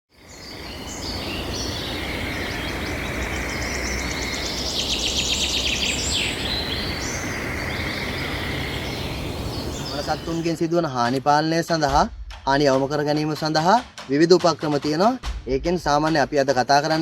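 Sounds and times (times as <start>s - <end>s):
outdoor background noise: 0.1s - 17.0s
birds chirping and calling: 0.2s - 17.0s.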